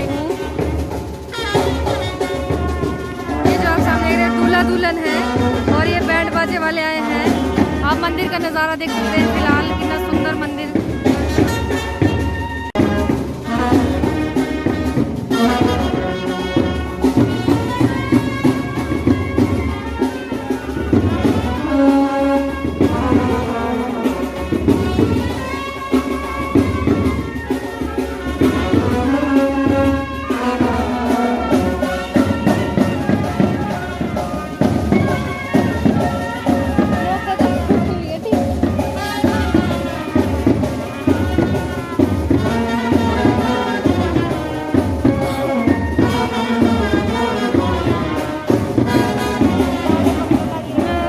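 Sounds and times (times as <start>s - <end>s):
brass band playing: 0.0s - 51.0s
steady drum beat: 0.0s - 51.0s
wind instruments melody: 0.0s - 51.0s.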